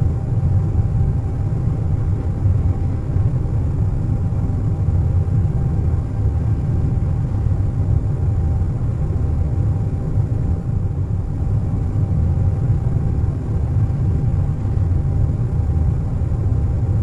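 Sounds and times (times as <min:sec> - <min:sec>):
airliner cabin rumble: 0:00.0 - 0:17.0
faint steady hum: 0:00.0 - 0:17.0.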